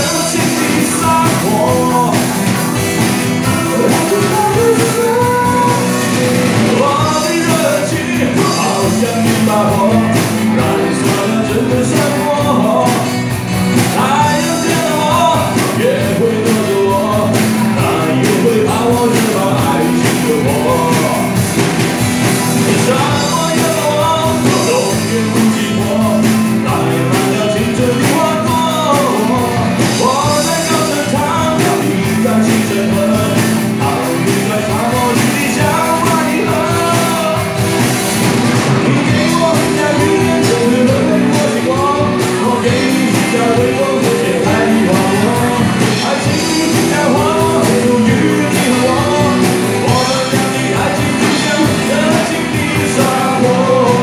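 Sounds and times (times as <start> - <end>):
man singing: 0.0 - 54.0
rock band playing: 0.0 - 54.0.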